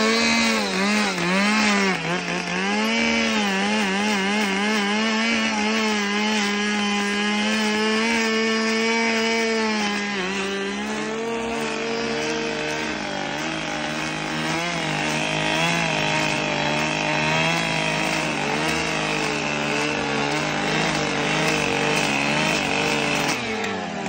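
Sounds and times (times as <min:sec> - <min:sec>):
chainsaw engine at high revs: 0:00.0 - 0:24.0.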